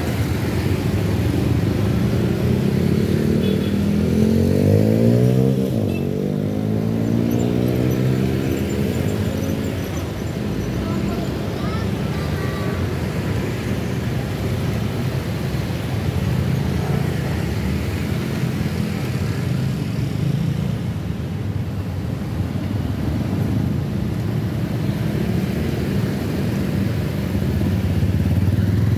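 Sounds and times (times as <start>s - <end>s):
vehicles passing: 0.0s - 28.9s.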